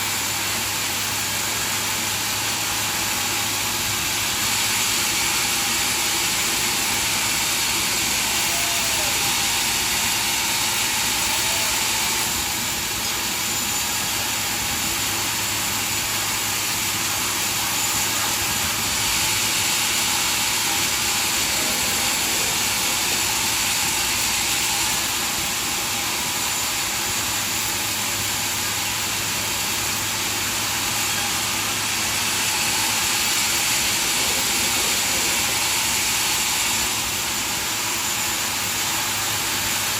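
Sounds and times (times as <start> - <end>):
low machine hum: 0.0 - 39.7
sawmill machinery rushing: 0.0 - 39.9.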